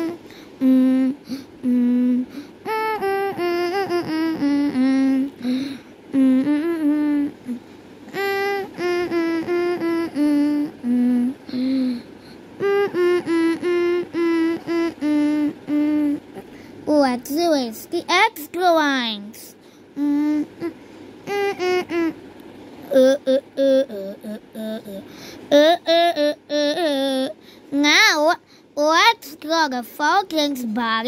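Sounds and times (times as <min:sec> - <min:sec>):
high voice singing a simple tune: 0:00.0 - 0:22.2, 0:22.8 - 0:31.0.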